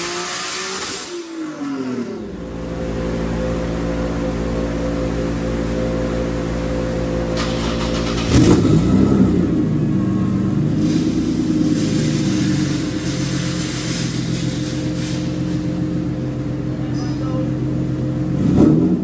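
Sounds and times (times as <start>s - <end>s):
car engine revving on dyno: 0.0s - 19.0s.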